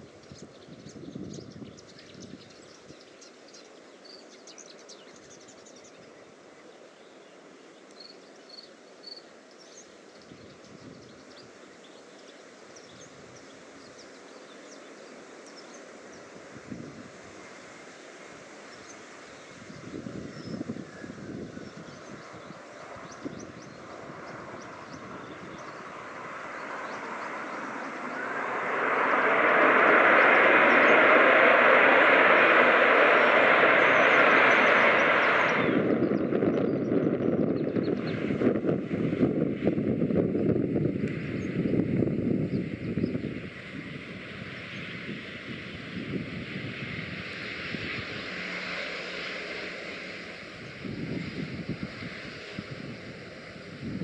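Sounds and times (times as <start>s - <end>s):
jet engines rushing hiss: 0.0s - 54.0s.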